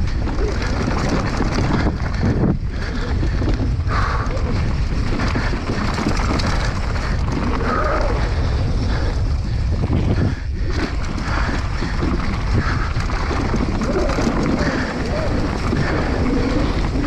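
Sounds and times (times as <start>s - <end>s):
bike rattling on rough ground: 0.0s - 17.0s
wind buffeting microphone: 0.0s - 17.0s.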